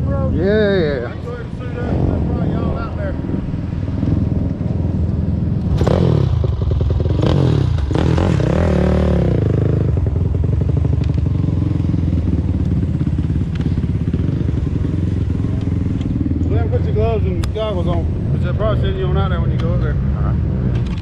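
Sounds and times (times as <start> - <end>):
atv engine revving and idling: 0.0 - 21.0.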